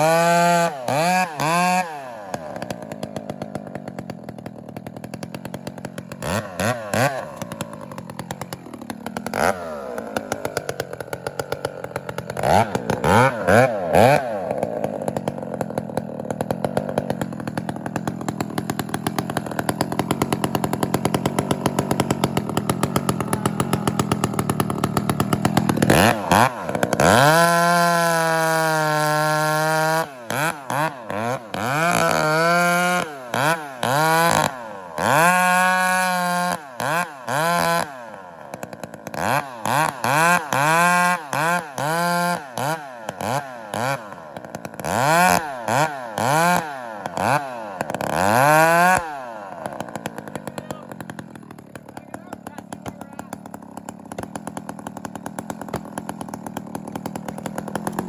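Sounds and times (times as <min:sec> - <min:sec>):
chainsaw cutting and revving: 0:00.0 - 0:58.0.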